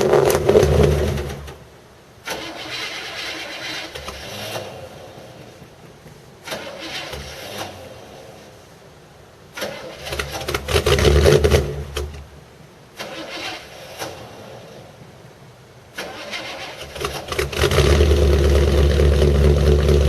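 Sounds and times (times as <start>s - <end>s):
car engine cranking: 0.0s - 8.4s, 9.5s - 12.3s, 13.0s - 14.9s, 15.9s - 20.0s.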